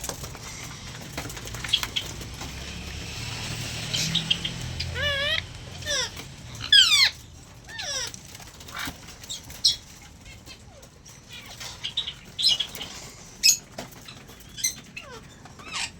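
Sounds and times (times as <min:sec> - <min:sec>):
birds flapping wings: 0:00.0 - 0:15.6
birds calling and chirping: 0:00.0 - 0:15.9.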